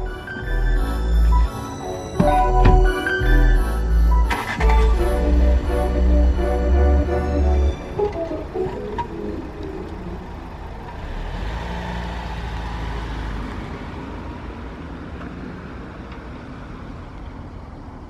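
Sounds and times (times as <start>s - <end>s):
car pulling away: 0.0s - 18.0s.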